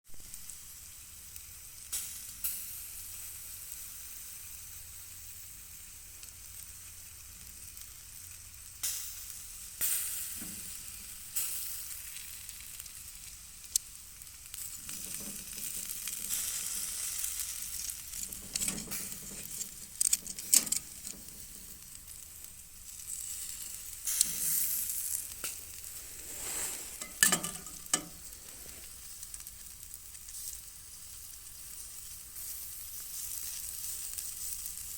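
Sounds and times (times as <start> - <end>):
sausages sizzling over charcoal: 0.1 - 34.9
fat crackling and popping: 0.2 - 34.9.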